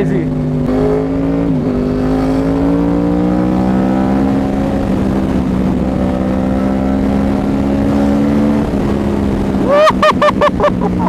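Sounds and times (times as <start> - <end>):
motorcycle engine with loud exhaust: 0.0 - 11.0.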